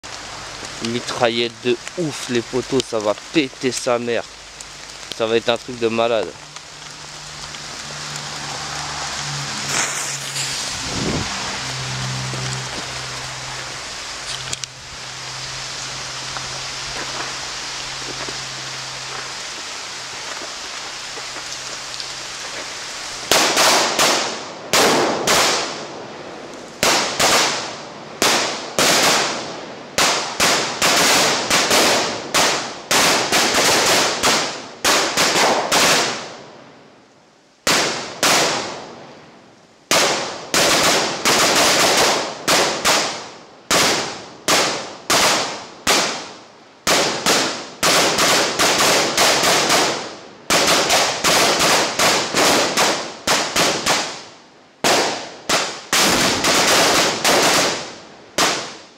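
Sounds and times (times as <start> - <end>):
firecrackers banging: 0.0 - 36.4, 37.7 - 39.0, 39.9 - 58.9
steady hiss: 0.0 - 58.9.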